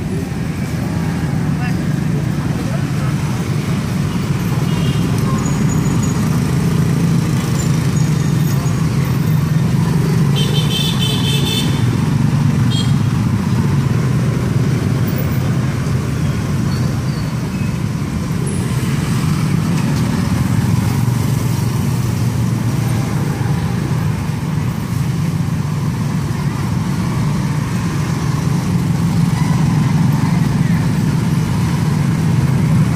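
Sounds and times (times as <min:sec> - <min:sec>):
road traffic engine noise: 0:00.0 - 0:32.9.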